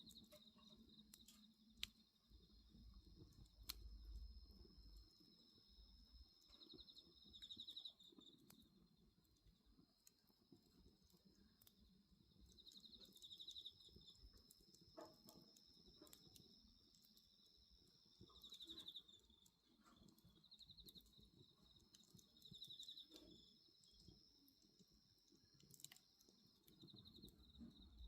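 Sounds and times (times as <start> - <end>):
bonfire crackles: 0.0 - 28.0
crickets trilling: 0.0 - 28.0.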